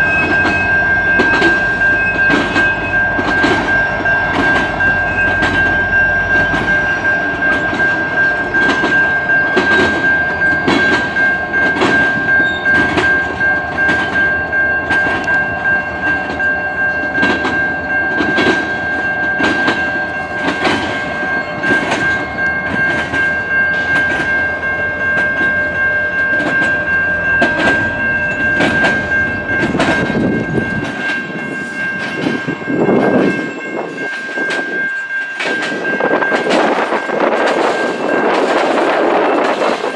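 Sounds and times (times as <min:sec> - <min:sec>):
high-pitched wheel whine: 0:00.0 - 0:32.4
freight train rumbling past: 0:00.0 - 0:39.9
wheels clacking over rail joints: 0:00.0 - 0:39.9.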